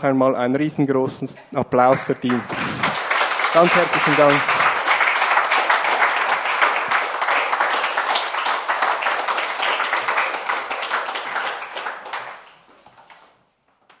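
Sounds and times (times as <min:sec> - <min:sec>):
audience applauding: 0:01.9 - 0:13.3.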